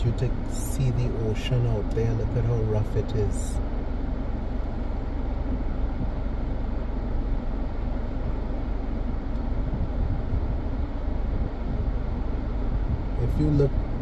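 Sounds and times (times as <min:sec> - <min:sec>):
car engine running inside cabin: 0:00.0 - 0:14.0
ventilation fan blowing: 0:00.0 - 0:14.0.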